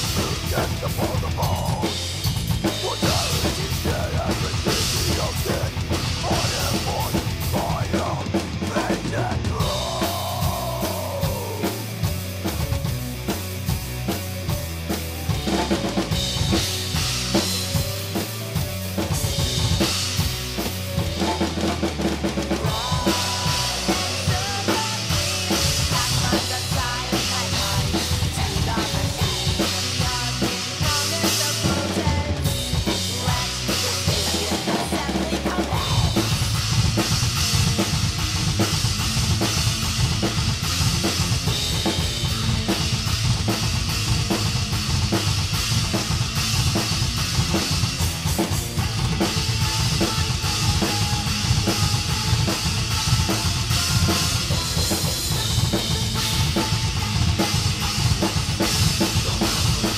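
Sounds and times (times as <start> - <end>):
metal track with guitars and keyboards: 0.0 - 59.9.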